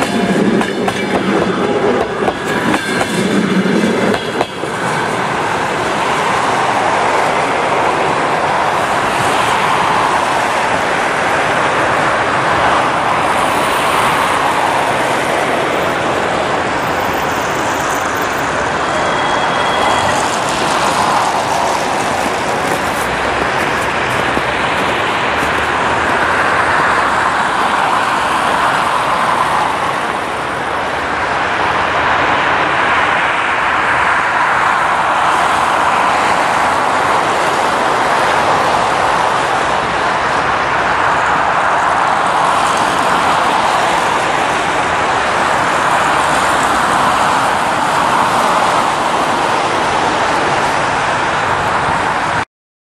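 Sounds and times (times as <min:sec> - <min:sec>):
tyres hissing on wet road: 0:01.4 - 0:52.4.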